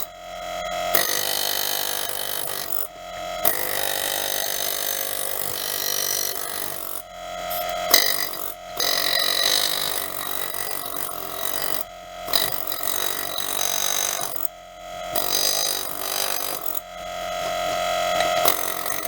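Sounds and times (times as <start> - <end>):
small power tool running: 0.9 - 19.0.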